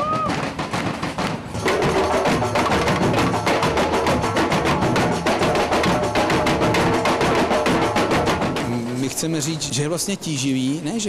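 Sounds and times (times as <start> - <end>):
group drumming: 0.0 - 9.2.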